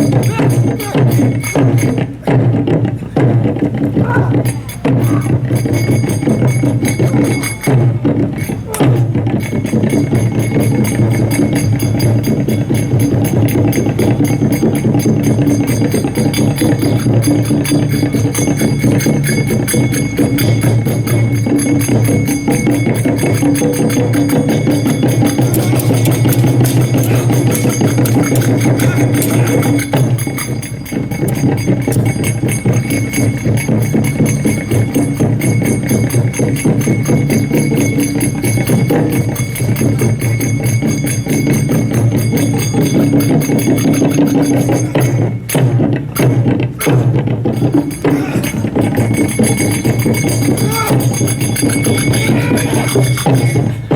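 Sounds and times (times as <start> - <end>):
jingling percussion: 0.0 - 53.9
music with drums: 0.0 - 53.9.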